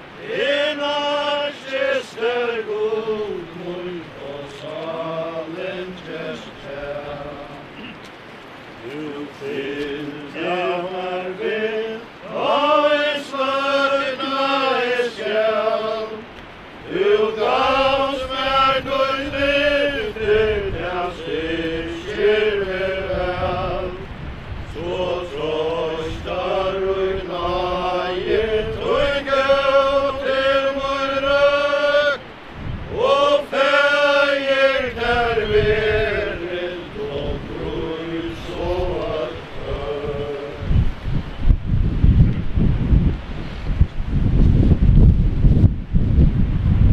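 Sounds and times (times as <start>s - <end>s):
mourners singing a hymn unaccompanied: 0.0s - 41.5s.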